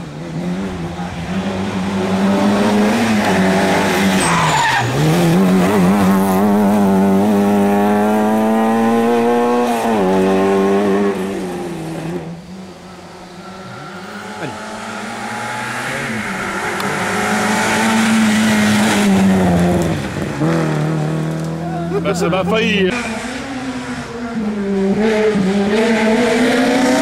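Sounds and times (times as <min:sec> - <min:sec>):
rally car engine revving past: 0:00.3 - 0:12.3, 0:13.4 - 0:27.0.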